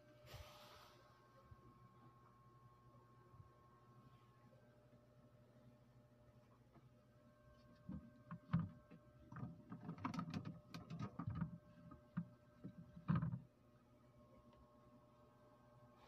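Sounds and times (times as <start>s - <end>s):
faint machine hum: 0.0s - 16.0s.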